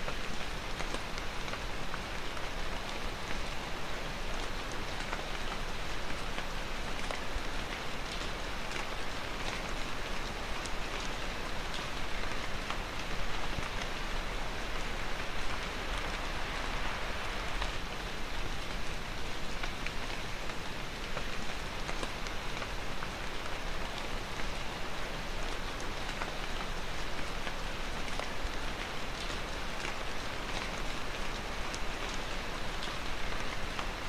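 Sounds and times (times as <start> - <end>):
raindrops ticking on hard surfaces: 0.0 - 34.0
steady rain falling: 0.0 - 34.0.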